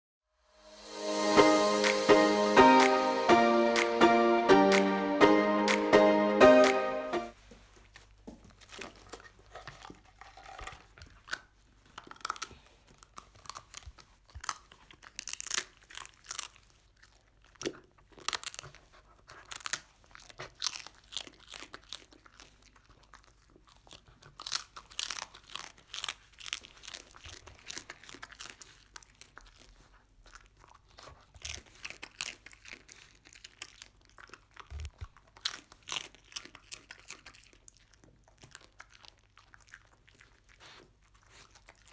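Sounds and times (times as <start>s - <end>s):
dog crunching crisp rice: 7.7s - 41.9s.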